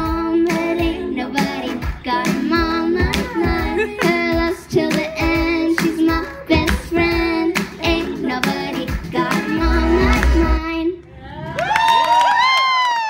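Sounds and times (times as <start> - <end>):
backing track with sharp beat: 0.0 - 10.6
girl singing into microphone: 0.0 - 11.0.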